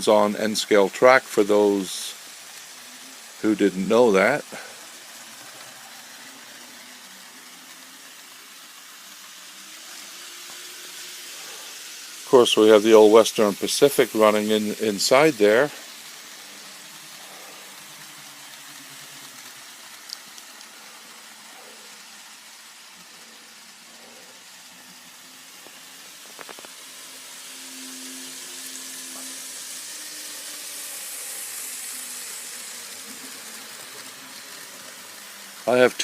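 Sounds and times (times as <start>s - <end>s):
model trains on rails: 0.0s - 36.0s.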